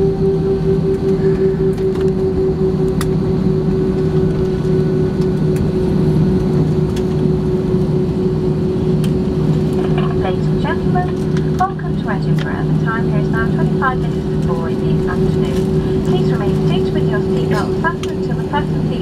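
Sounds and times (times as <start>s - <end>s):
jet engine drone in cabin: 0.0s - 19.0s
low rumble of runway rolling: 0.0s - 19.0s.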